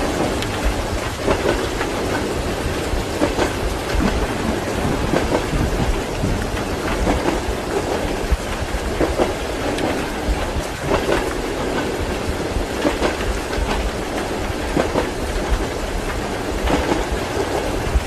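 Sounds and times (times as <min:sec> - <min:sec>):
low rumble of train carriage: 0:00.0 - 0:18.0
steady rain: 0:00.0 - 0:18.0
train wheels clacking over rail joints: 0:00.0 - 0:18.0.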